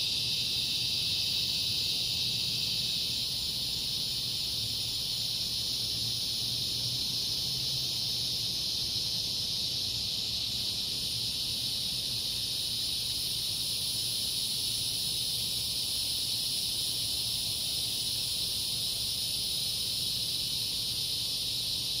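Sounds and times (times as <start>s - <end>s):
insects singing: 0.0s - 22.0s.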